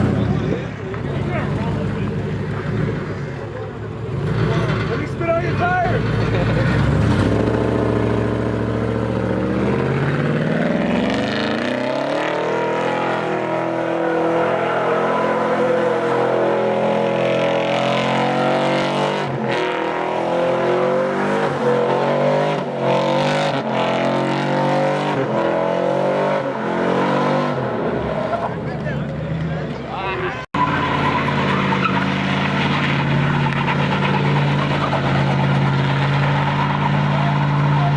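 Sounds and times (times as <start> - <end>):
car engine accelerating: 0.0 - 37.9.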